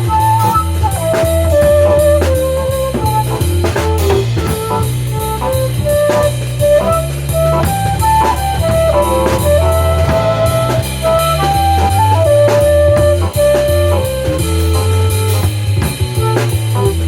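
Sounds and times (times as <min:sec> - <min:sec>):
bass line: 0:00.0 - 0:17.0
drum kit: 0:00.0 - 0:17.0
lead melody of held notes: 0:00.0 - 0:17.0.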